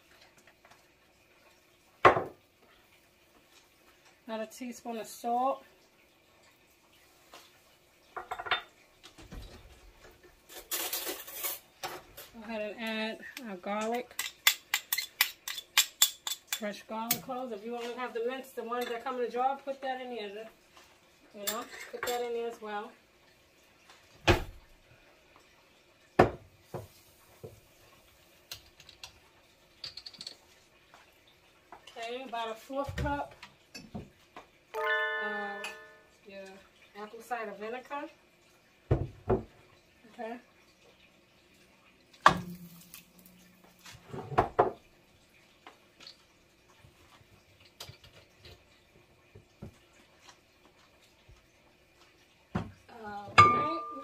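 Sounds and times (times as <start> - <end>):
faint ticks and drips: 0.0 - 34.8, 35.9 - 53.3.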